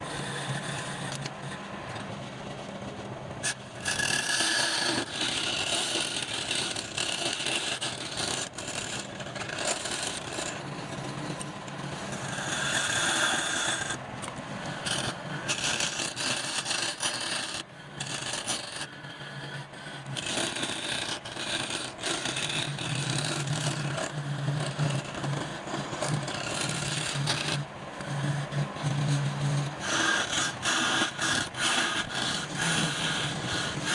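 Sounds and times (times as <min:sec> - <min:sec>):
lathe motor hum: 0:00.0 - 0:33.9
turning tool scraping spinning wood: 0:00.0 - 0:33.9.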